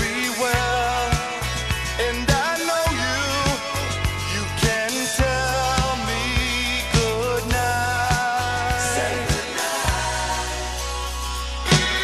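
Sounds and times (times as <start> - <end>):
song with drum beat and melody: 0.0 - 12.0.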